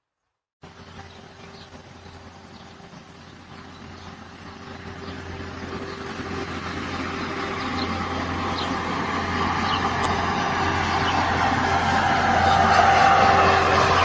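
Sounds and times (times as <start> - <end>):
vehicle approaching: 0.6 - 14.0.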